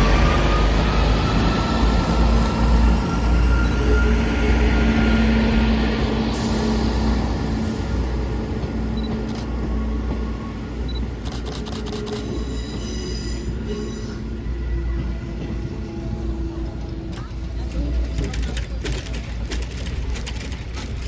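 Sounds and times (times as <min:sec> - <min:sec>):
diesel train rumbling past: 0:00.0 - 0:21.0.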